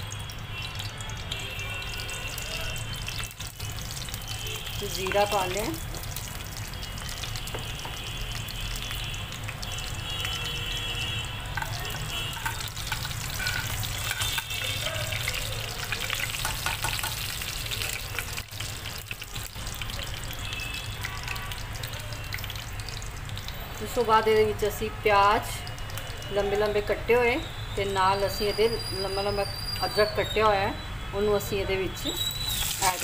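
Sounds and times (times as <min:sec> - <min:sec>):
seeds sizzling in hot oil: 0:00.0 - 0:30.7, 0:32.0 - 0:33.0.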